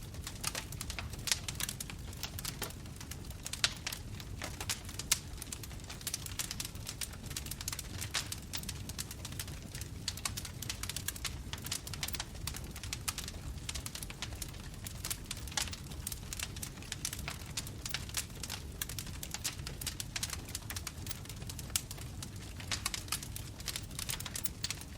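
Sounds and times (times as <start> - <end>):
bonfire crackling and popping: 0.0 - 24.9.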